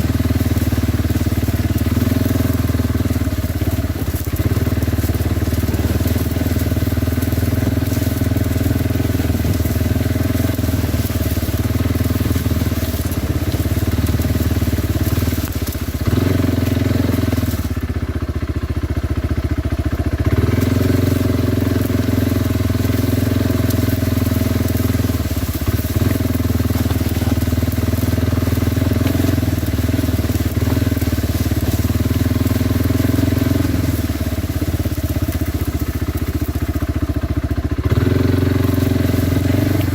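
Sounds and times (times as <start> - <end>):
atv engine running: 0.0 - 39.9
crunching rumble: 0.0 - 39.9.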